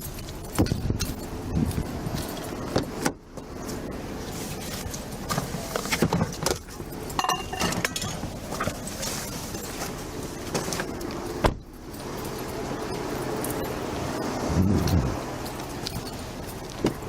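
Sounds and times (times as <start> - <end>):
keys and gear jingling: 0.0 - 6.0, 6.6 - 17.0
steady background hum: 0.0 - 17.0.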